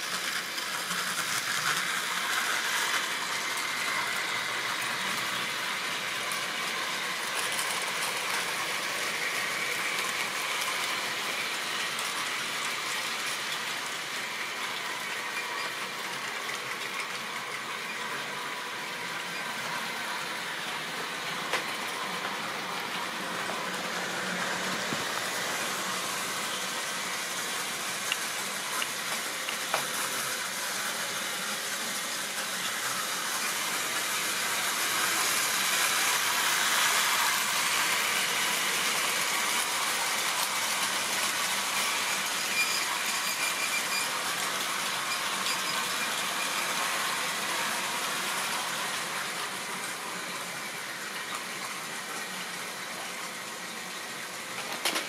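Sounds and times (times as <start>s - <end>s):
model train rolling hiss: 0.0s - 55.0s.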